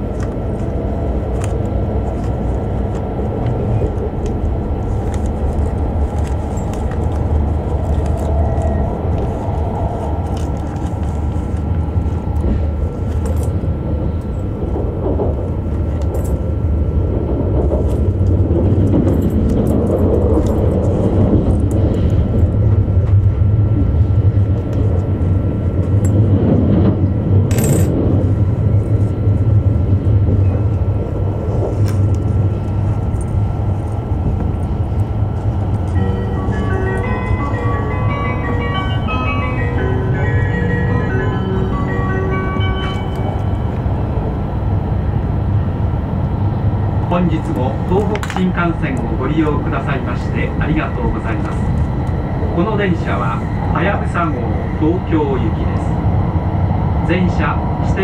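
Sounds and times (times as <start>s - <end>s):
train cabin rumble: 0.0s - 58.0s.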